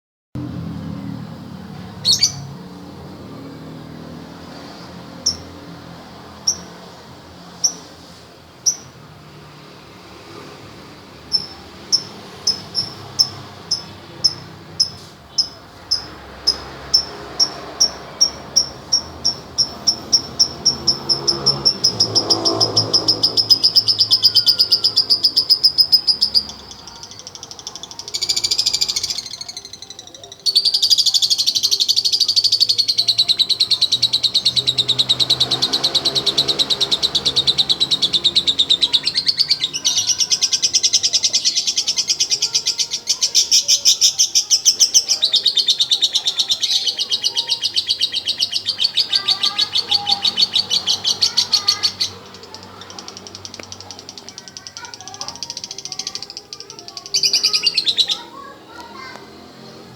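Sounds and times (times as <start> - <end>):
lovebird chirping and trilling: 2.0 - 2.6, 5.2 - 5.6, 6.4 - 6.8, 8.6 - 8.9, 11.3 - 58.5.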